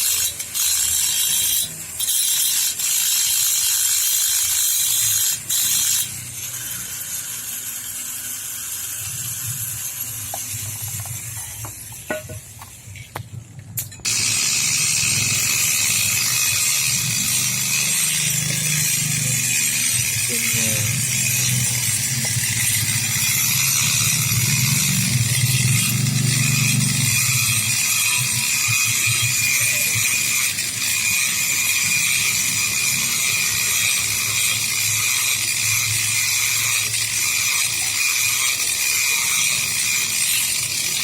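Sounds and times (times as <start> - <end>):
mechanical metalworking noise: 0.0 - 41.0.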